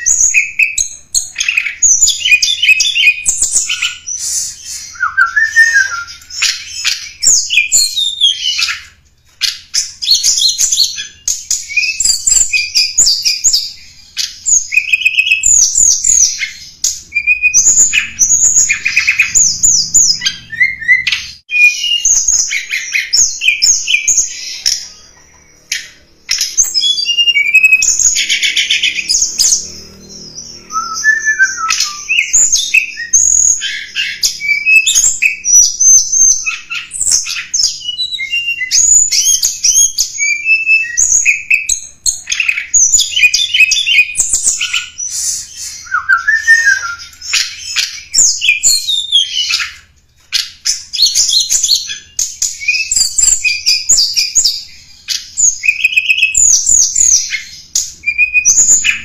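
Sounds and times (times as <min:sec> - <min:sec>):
bird song chirps and trills: 0:00.0 - 0:59.0.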